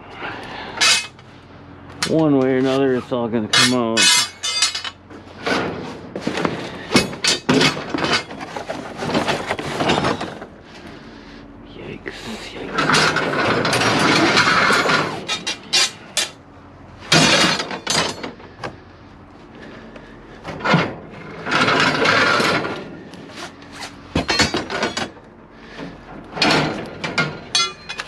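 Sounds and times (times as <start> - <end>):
scrap wood and metal clanking: 0.7 - 1.2, 1.9 - 11.2, 12.7 - 16.4, 17.0 - 18.8, 19.6 - 28.0.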